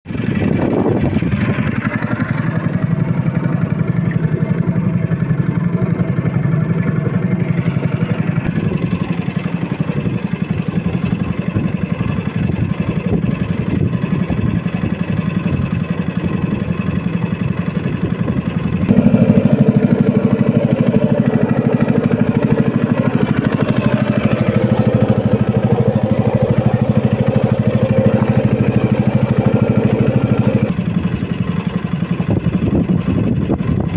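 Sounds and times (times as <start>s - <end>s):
boat engine running: 0.1s - 33.9s.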